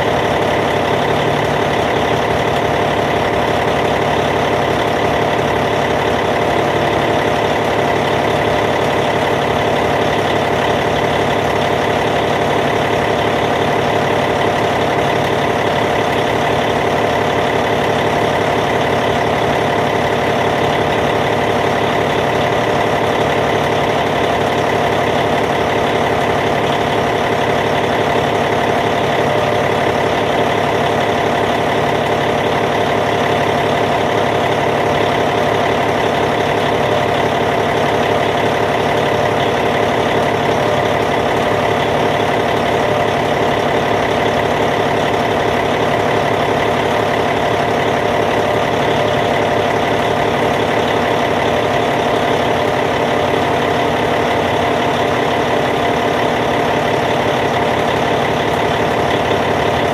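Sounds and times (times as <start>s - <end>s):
bulldozer diesel engine idling: 0.0s - 59.9s.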